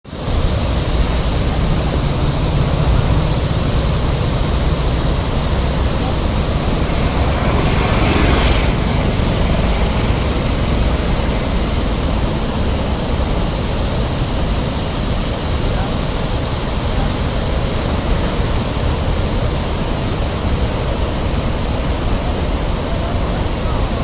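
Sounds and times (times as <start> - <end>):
wind rumbling on microphone: 0.0 - 24.0
water rushing at a dam: 0.1 - 24.0.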